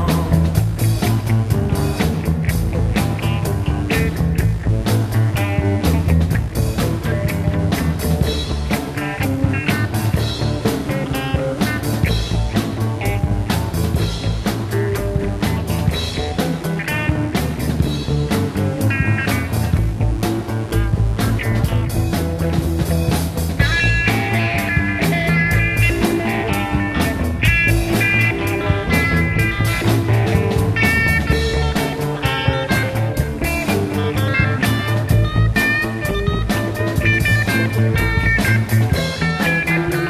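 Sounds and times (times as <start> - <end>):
bass guitar: 0.0 - 40.0
drum kit beat: 0.0 - 40.0
guitars playing melodic lines: 0.0 - 40.0.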